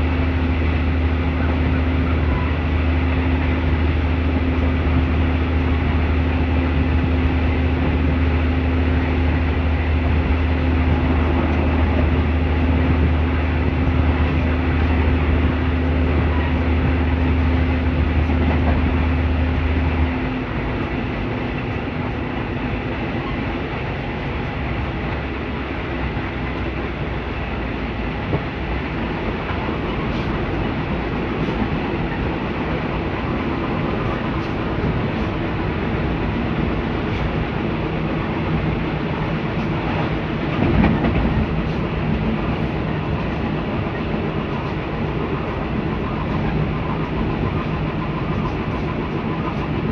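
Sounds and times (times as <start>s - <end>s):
train running on rails: 0.0s - 49.9s.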